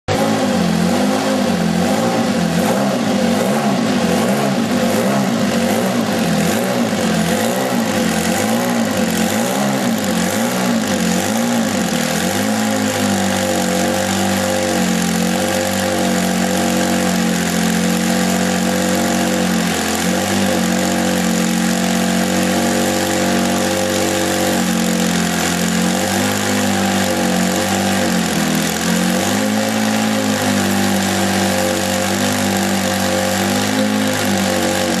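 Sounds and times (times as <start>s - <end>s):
racing car engine revving: 0.1s - 35.0s.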